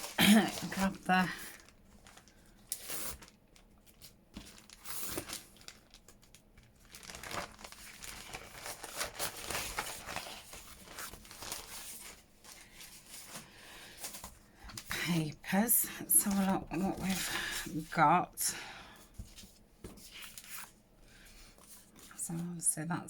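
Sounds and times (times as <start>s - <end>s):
papers rustling and crinkling: 0.0s - 15.0s, 16.1s - 18.0s, 18.9s - 22.2s.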